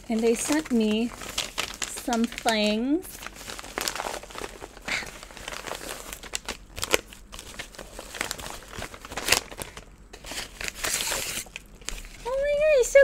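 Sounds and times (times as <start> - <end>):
packaging crinkling: 0.0 - 12.8.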